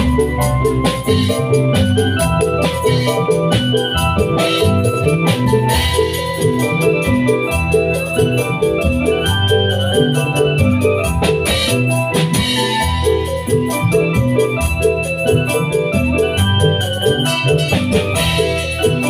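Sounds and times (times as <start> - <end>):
electronic keyboard music: 0.0 - 19.0.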